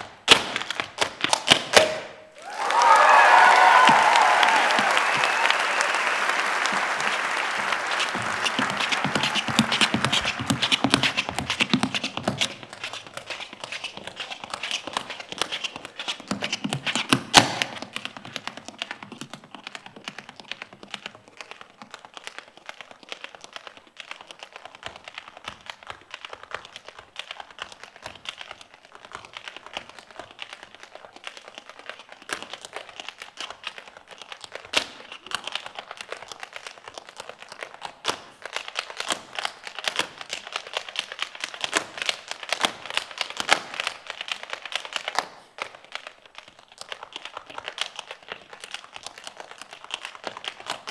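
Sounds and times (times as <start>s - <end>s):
tap shoes clicking: 2.8s - 5.8s, 6.6s - 50.9s
tap shoes stamping: 2.8s - 5.8s, 6.6s - 50.9s.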